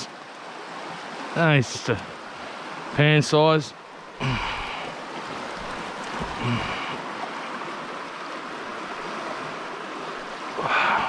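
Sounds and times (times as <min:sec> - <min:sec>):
flowing stream: 0:00.0 - 0:11.0.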